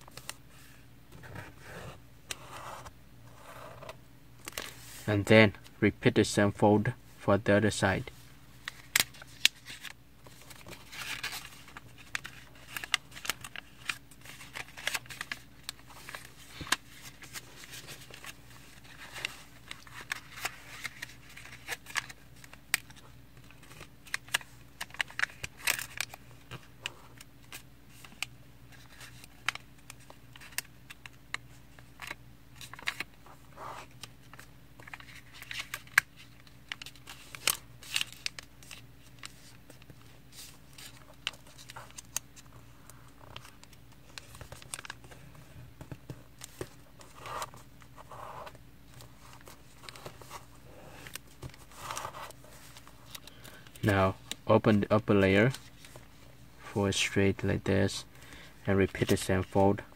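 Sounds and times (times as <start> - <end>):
faint steady hum: 0.0 - 59.9
paper crinkling and creasing: 8.6 - 59.9.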